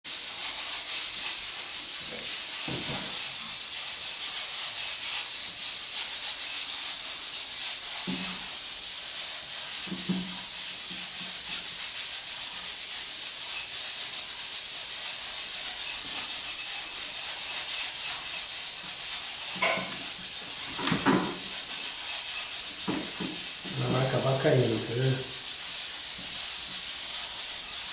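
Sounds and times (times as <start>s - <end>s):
high-pitched hiss: 0.1s - 27.9s.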